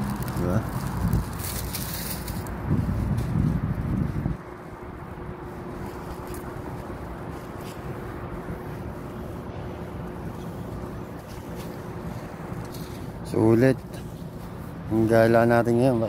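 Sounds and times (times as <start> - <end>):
wind on microphone: 0.0 - 13.3
street traffic: 0.0 - 16.0.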